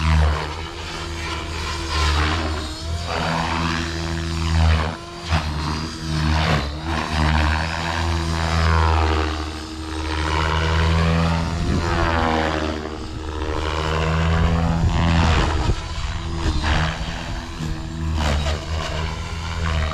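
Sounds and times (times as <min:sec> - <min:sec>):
helicopter motor whine: 0:00.0 - 0:19.9
rc helicopter rotor drone: 0:00.0 - 0:19.9.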